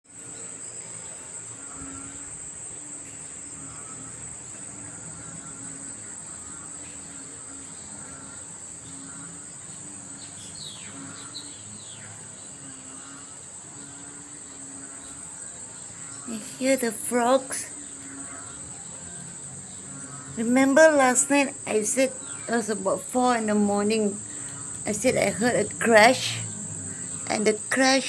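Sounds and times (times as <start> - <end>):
frogs calling: 0.1 - 28.0
high-pitched insect trill: 0.1 - 28.0.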